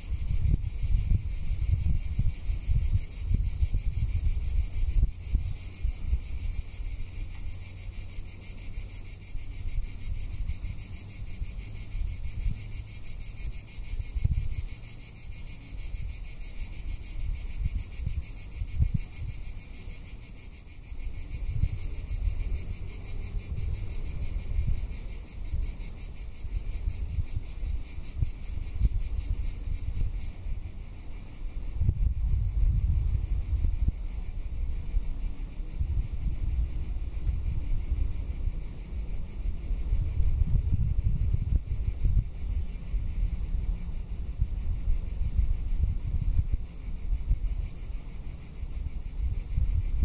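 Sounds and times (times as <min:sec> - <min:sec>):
cicadas singing: 0:00.0 - 0:50.0
wind buffeting microphone: 0:00.0 - 0:50.0.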